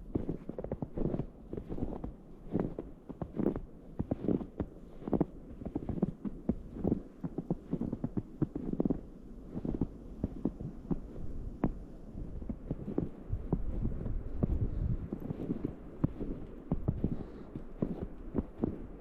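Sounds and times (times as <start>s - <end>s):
footsteps crunching in snow: 0.0s - 19.0s.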